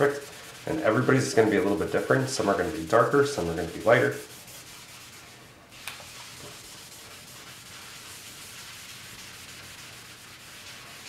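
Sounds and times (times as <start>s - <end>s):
towel rubbing charcoal on paper: 0.0s - 11.0s.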